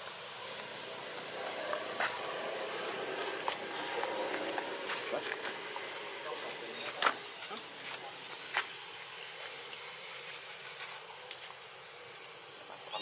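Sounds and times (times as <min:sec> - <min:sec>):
outdoor ambient hiss: 0:00.0 - 0:13.0.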